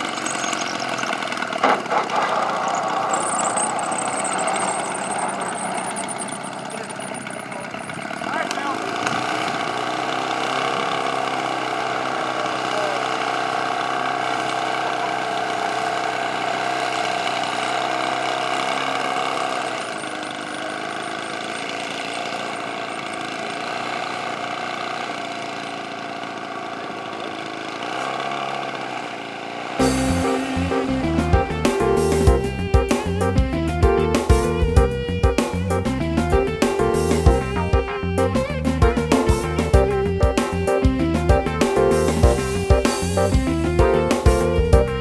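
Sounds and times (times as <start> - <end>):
model airplane engine idling: 0.0 - 45.0.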